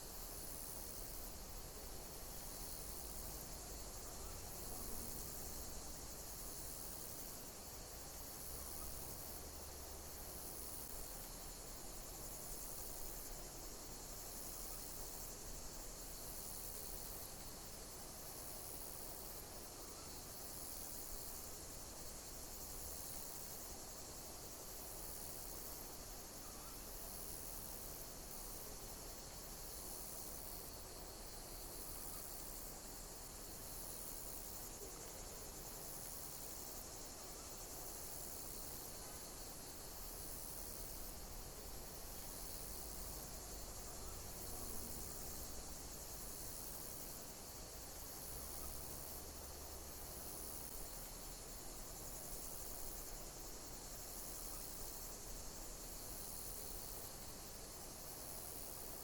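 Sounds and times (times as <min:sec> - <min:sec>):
insects chirping: 0:00.0 - 0:59.0
steady hiss: 0:00.0 - 0:59.0.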